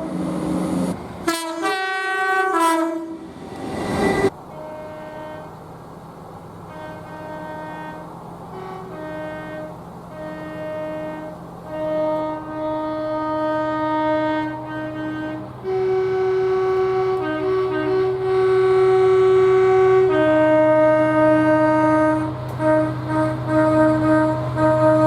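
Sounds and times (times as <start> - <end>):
low engine drone: 0.0 - 1.7, 3.0 - 25.0
train horn blasts: 0.0 - 5.7, 6.6 - 25.0.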